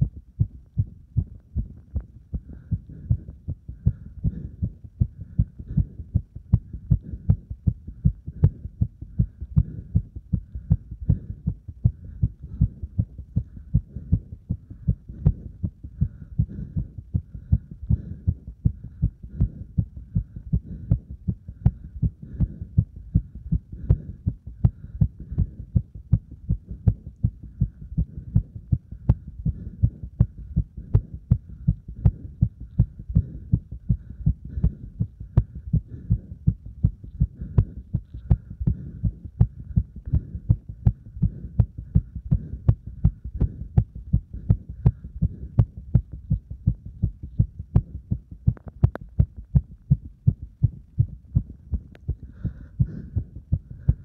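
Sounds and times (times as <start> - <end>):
fast heartbeat thumps: 0.0 - 54.0.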